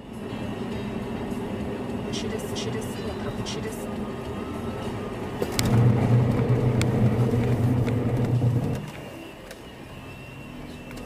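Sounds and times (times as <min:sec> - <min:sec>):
road noise: 0:00.0 - 0:11.0
truck engine droning: 0:00.0 - 0:11.0.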